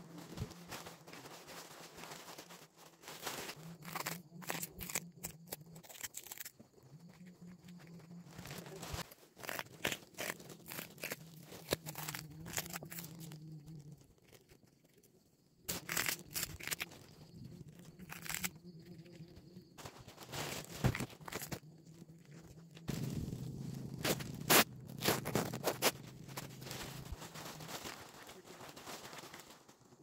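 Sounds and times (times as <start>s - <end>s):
melon crackling and tearing: 0.0s - 30.0s.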